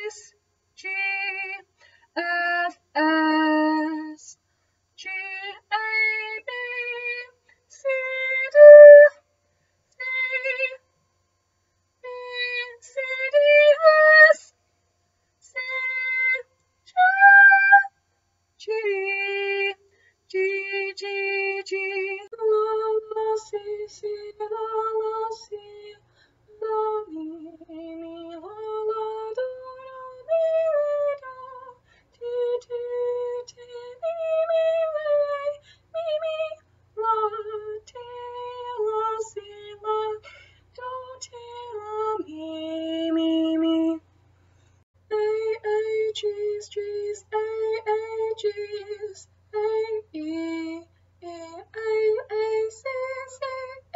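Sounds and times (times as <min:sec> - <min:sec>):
woman singing: 0:00.0 - 0:04.4, 0:05.0 - 0:09.1, 0:12.0 - 0:14.5, 0:15.4 - 0:17.9, 0:18.6 - 0:40.2, 0:40.8 - 0:44.0, 0:45.1 - 0:53.9.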